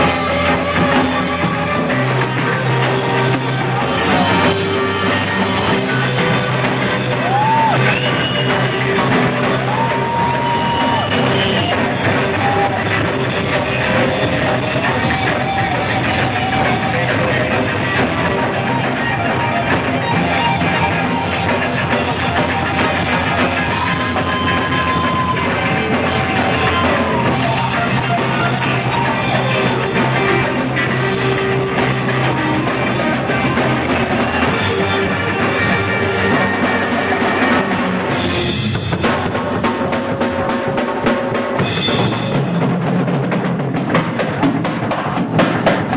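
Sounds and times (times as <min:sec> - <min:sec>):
blues-rock band playing: 0:00.0 - 0:45.9.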